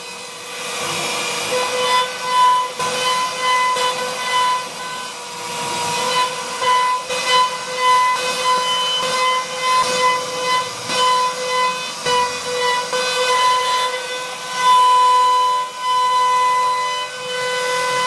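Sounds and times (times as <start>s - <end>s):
router bit carving wood: 0.0s - 18.0s
router spindle whine: 0.0s - 18.0s.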